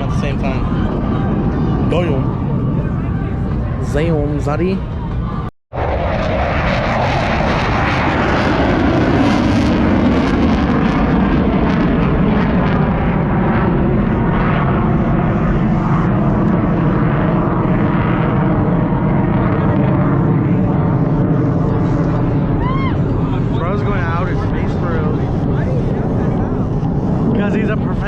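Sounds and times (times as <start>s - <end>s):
airplane engine drone: 0.0s - 28.0s.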